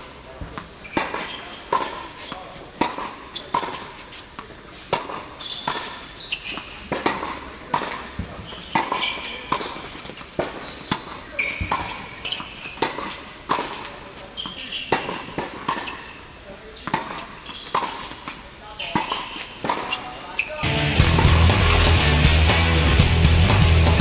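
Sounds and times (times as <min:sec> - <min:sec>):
shoes squeaking: 0:00.0 - 0:20.6
tennis balls struck by rackets: 0:00.1 - 0:16.2, 0:16.8 - 0:22.0
tennis balls bouncing on court: 0:00.1 - 0:20.5.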